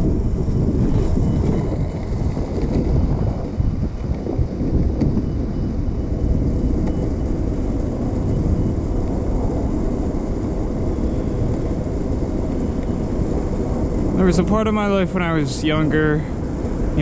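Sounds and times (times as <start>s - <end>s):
wheels rolling on pavement: 0.0s - 17.0s
wind buffeting microphone: 0.0s - 17.0s.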